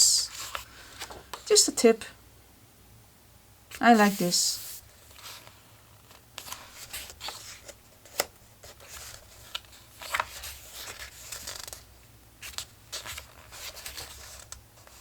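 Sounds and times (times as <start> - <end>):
paper pages rustling: 0.3 - 1.5, 3.8 - 15.0.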